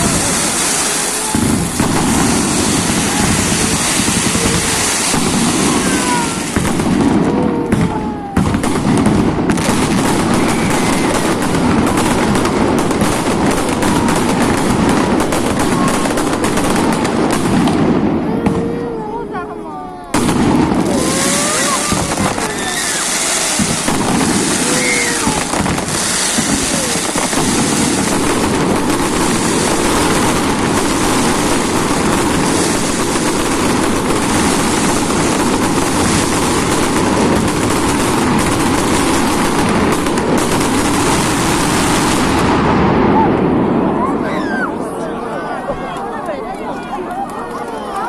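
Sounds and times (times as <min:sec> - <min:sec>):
fireworks whistling: 0:00.0 - 0:18.6, 0:20.1 - 0:43.3
fireworks bursting and crackling: 0:00.0 - 0:44.8.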